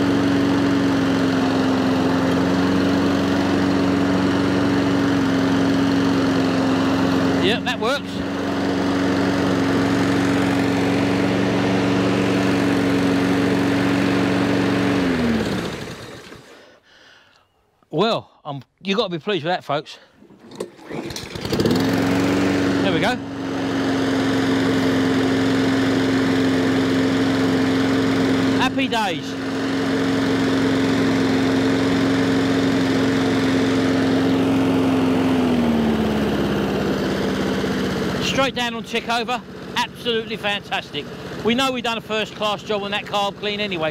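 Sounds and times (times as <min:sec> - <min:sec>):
mower engine running: 0:00.0 - 0:16.8, 0:20.2 - 0:43.9.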